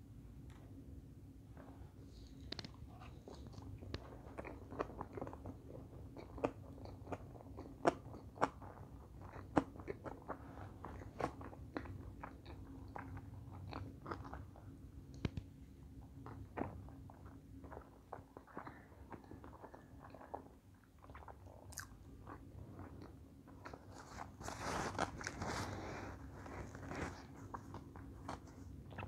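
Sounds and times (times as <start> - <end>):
person chewing: 1.6 - 15.4, 16.2 - 29.0.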